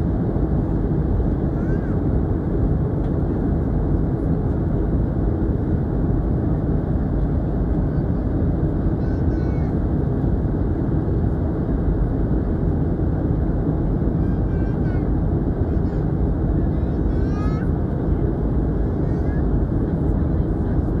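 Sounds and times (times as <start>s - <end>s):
jet airliner cabin noise: 0.0s - 21.0s.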